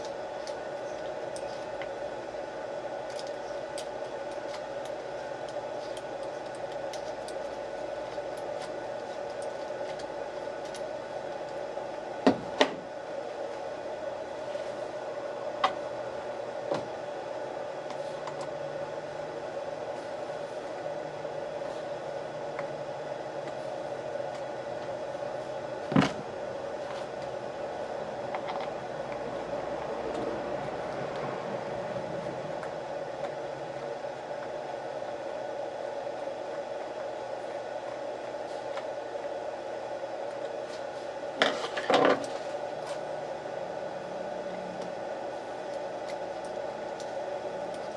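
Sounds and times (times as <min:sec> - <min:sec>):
steady background hum: 0:00.0 - 0:47.9.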